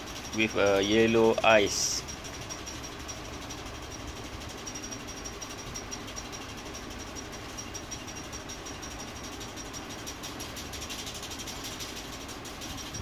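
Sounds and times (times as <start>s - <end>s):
geared mechanism clicking: 0.0s - 13.0s.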